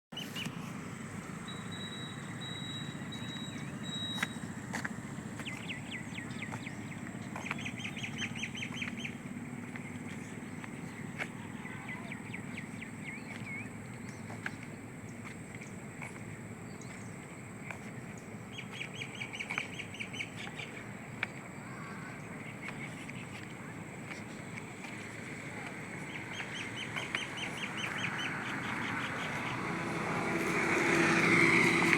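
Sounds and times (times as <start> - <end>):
small birds chirping: 1.4 - 31.9.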